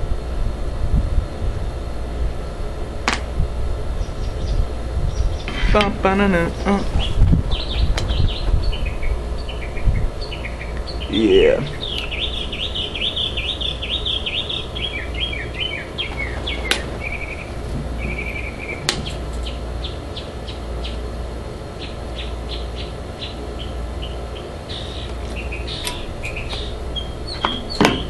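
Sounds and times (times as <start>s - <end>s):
low rumble: 0.0s - 24.5s
songbirds chirping and trilling: 3.8s - 28.0s.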